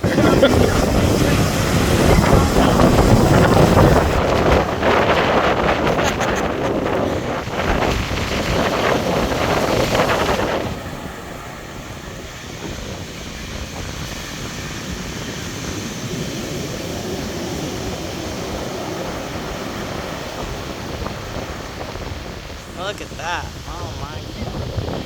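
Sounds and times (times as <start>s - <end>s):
heavy surf breaking: 0.0s - 25.0s
wind buffeting microphone: 0.0s - 25.0s.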